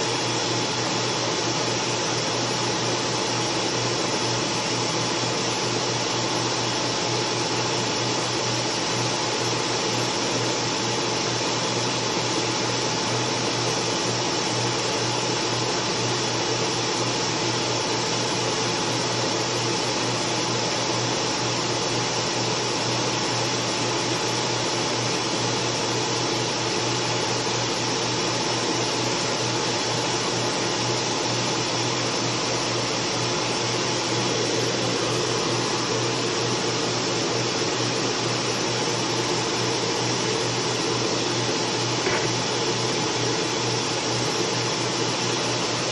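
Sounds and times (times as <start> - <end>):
faint steady whine: 0.0 - 45.9
laser engraver fan and air pump: 0.0 - 45.9.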